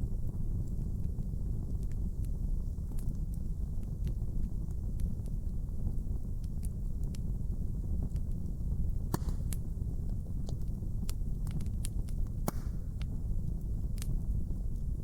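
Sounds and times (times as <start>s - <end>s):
wood fire crackling: 0.2s - 15.0s.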